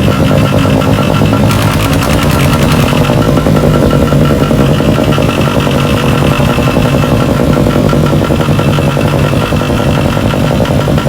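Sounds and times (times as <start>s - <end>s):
motor running with fast pulsing: 1.2s - 10.6s.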